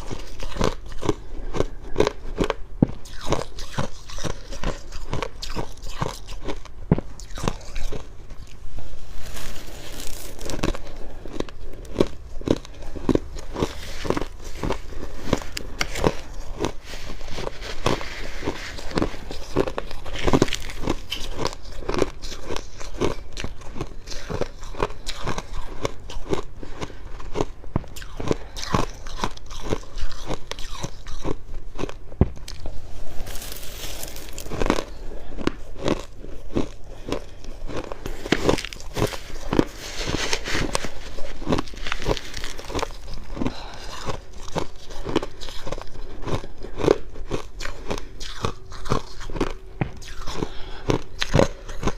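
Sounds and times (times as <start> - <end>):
chewing crunchy frost: 0.0 - 51.9.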